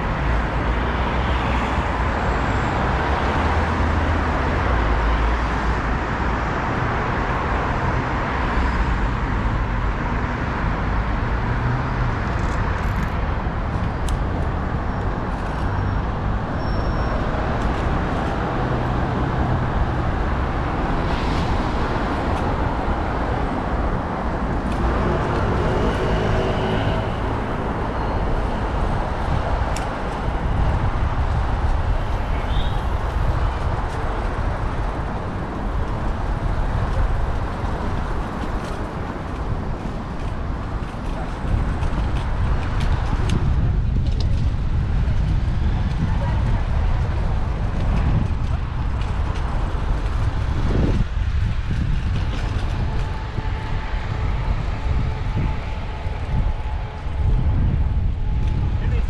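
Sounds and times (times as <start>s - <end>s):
city road traffic: 0.0s - 59.0s
wind rumble on microphone: 0.0s - 59.0s.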